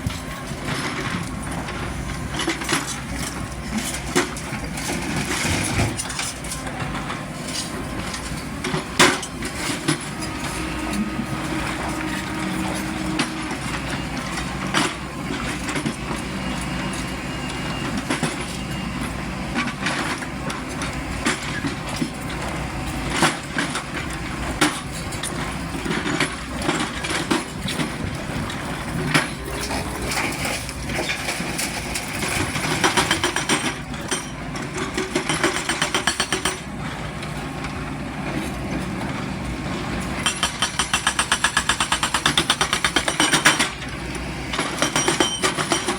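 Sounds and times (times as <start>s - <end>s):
excavator diesel engine under load: 0.0s - 45.9s.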